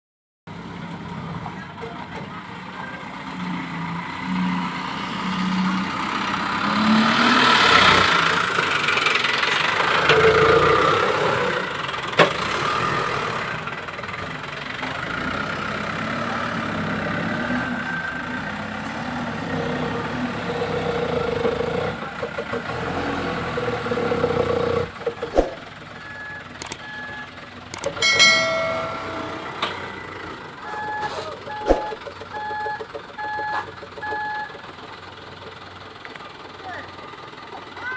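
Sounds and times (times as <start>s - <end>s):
truck engine revving: 0.5s - 37.9s.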